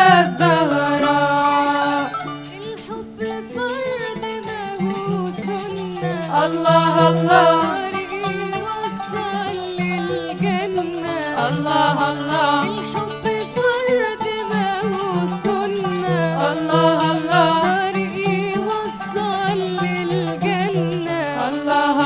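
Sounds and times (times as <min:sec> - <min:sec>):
girls' choir singing: 0:00.0 - 0:02.1, 0:05.1 - 0:13.6, 0:14.4 - 0:22.0
oud playing: 0:00.0 - 0:22.0.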